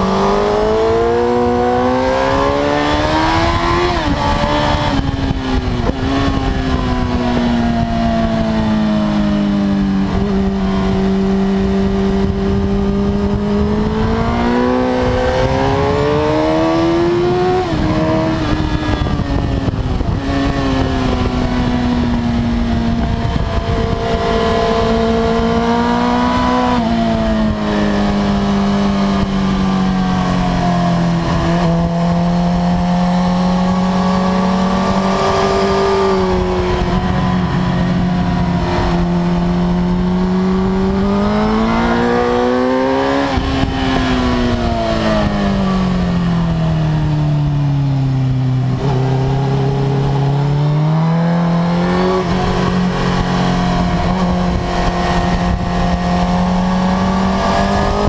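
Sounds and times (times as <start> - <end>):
motorcycle engine revving: 0.0 - 58.0
wind rush on microphone: 0.0 - 58.0.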